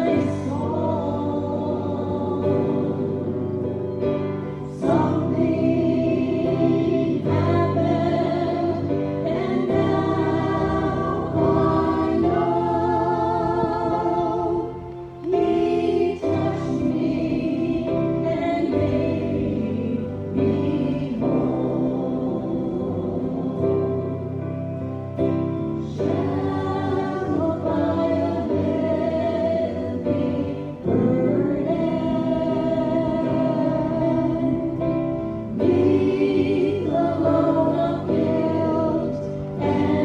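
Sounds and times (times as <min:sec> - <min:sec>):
group singing a hymn: 0:00.0 - 0:40.0.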